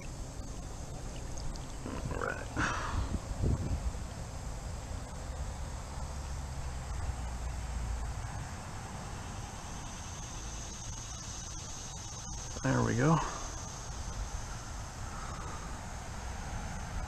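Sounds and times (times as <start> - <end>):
creek rumble: 0.0 - 17.0
faint insect chirping: 0.0 - 17.0.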